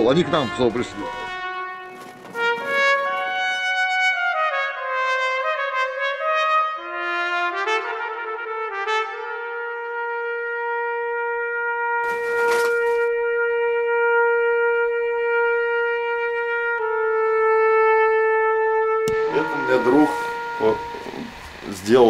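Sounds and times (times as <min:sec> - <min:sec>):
slow solo brass melody: 0:00.0 - 0:22.0.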